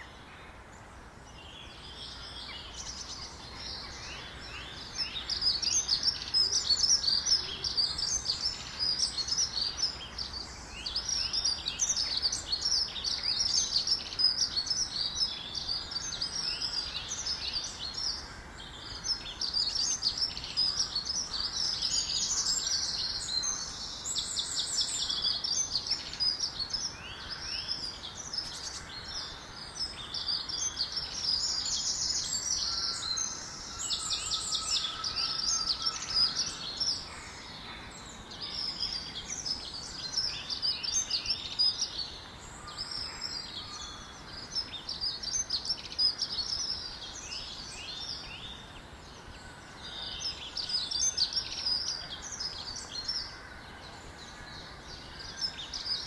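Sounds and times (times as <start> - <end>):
faint steady hiss: 0.0 - 56.0
songbirds chirping and trilling: 0.0 - 56.0.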